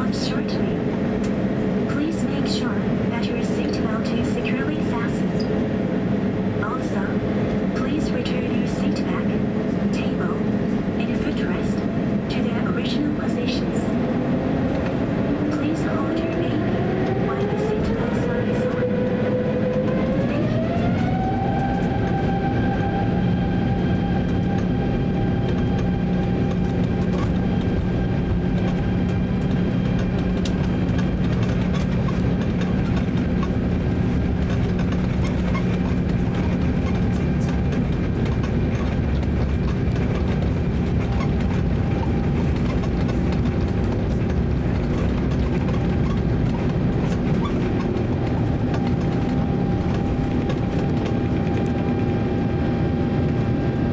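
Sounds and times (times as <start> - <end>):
constant low hum: 0.0 - 53.9
jet engine whine: 0.0 - 53.9.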